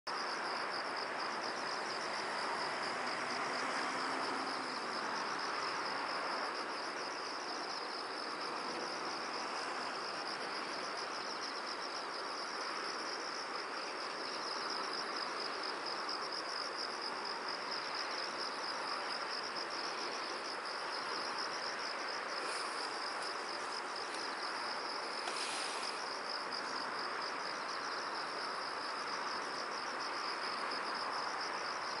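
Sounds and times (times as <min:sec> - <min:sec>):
background hiss: 0:00.1 - 0:32.0
crickets chirping: 0:00.1 - 0:32.0.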